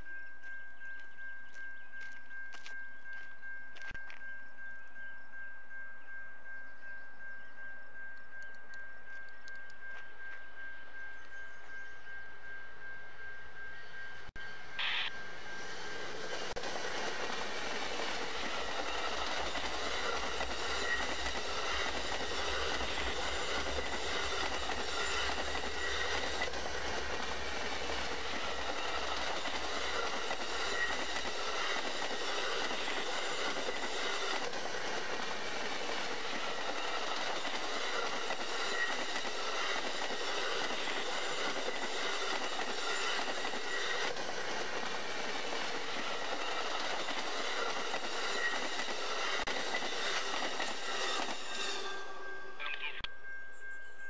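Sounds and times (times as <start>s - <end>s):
crossing bell ringing: 0.0s - 16.6s, 17.3s - 54.0s
train rolling past: 0.0s - 54.0s.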